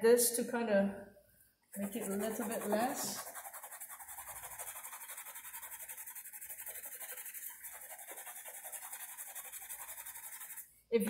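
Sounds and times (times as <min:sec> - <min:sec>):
pastel stick scratching paper: 0:01.8 - 0:10.7.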